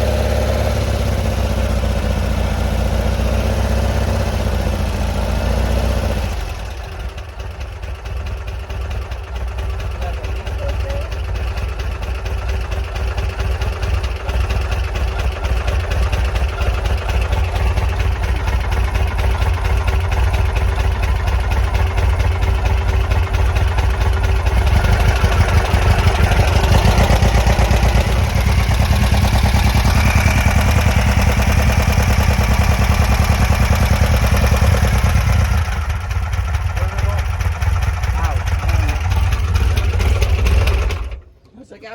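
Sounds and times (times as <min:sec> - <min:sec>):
air-cooled engine running: 0:00.0 - 0:41.4.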